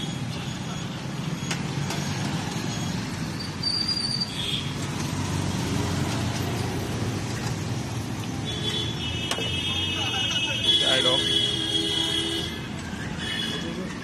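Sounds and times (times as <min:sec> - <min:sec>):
rumble of road traffic: 0:00.0 - 0:14.0.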